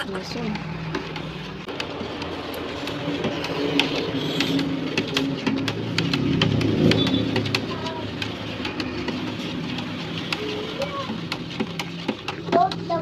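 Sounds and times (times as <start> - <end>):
liquid swishing in plastic basin: 0.2 - 13.0.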